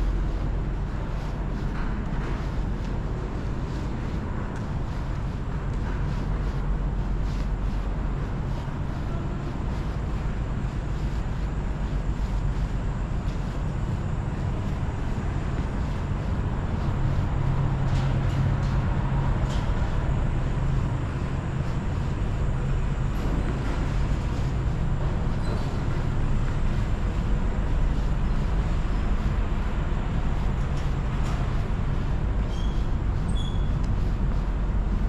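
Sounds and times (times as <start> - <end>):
city traffic rumble: 0.0 - 35.0.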